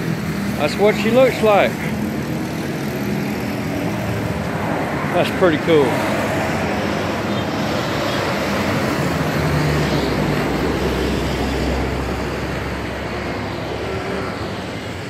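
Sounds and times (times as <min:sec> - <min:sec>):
passing vehicle engine: 0:00.0 - 0:15.0
steady road noise: 0:00.0 - 0:15.0.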